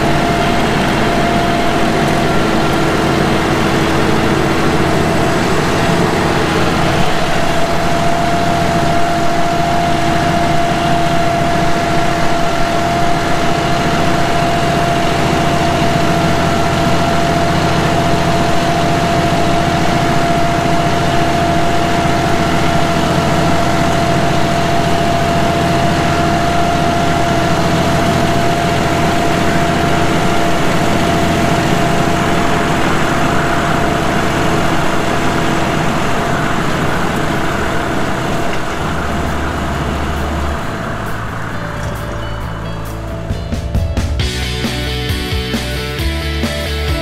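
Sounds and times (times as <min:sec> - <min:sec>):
steady whine: 0:00.0 - 0:47.0
tractor diesel engine running: 0:00.0 - 0:47.0.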